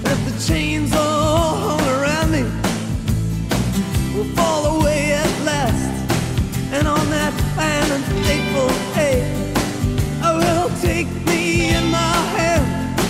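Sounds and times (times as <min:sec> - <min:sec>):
person singing: 0:00.0 - 0:02.6, 0:04.1 - 0:06.1, 0:06.7 - 0:13.0
band with steady beat: 0:00.2 - 0:13.0.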